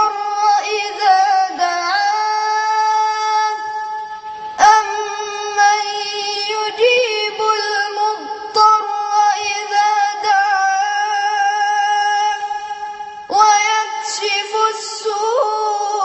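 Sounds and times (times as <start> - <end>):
boy chanting recitation: 0.0 - 16.0.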